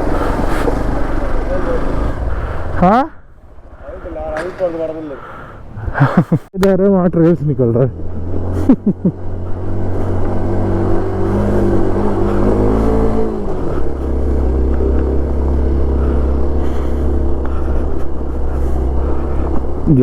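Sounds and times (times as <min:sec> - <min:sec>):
motorcycle engine running: 0:00.0 - 0:05.8, 0:07.8 - 0:20.0.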